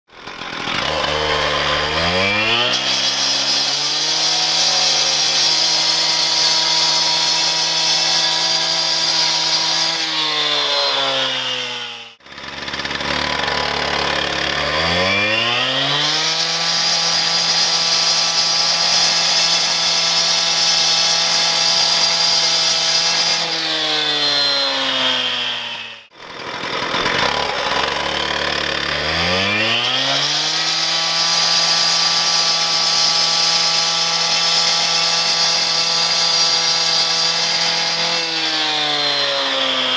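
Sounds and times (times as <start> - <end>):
cut-off saw cutting concrete: 0.1 - 39.9.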